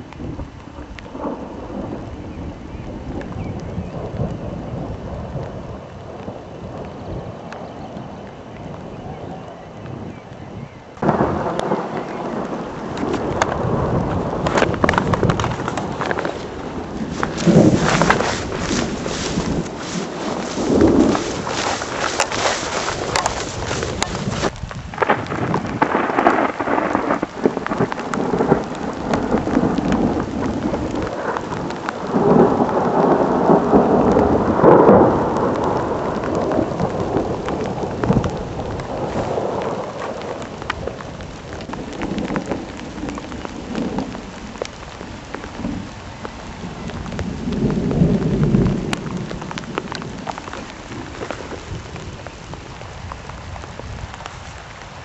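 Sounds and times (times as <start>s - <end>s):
rain hissing: 0.0s - 55.0s
thunder rumbling: 0.0s - 55.0s.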